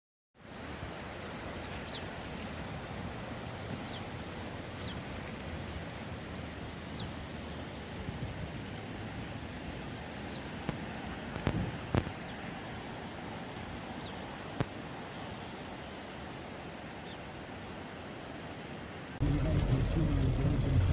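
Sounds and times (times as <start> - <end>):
water rushing: 0.4 - 20.9.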